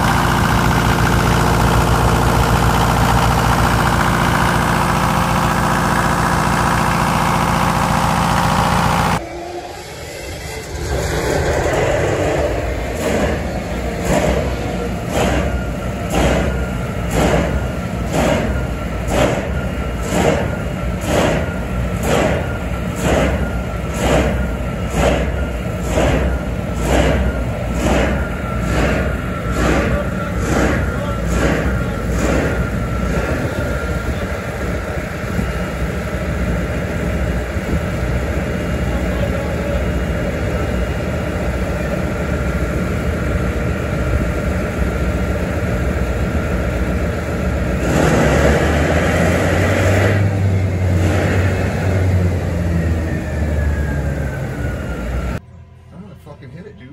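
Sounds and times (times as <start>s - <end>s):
diesel generator engine surging: 0.0s - 56.9s.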